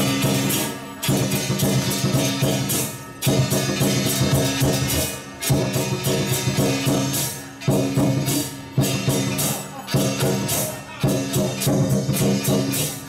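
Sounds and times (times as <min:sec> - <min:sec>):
cymbals clashing: 0:00.0 - 0:13.0
large drum beating: 0:00.0 - 0:13.0.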